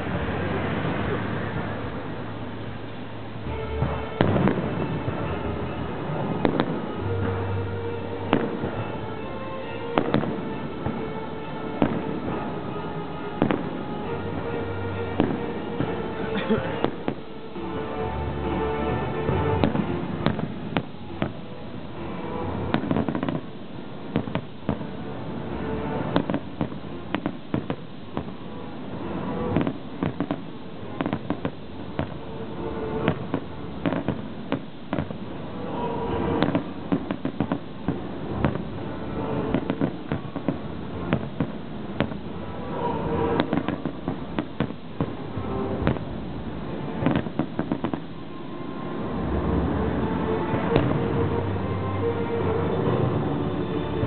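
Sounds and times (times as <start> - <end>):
background music: 0.0 - 54.0
fireworks bangs: 0.0 - 54.0.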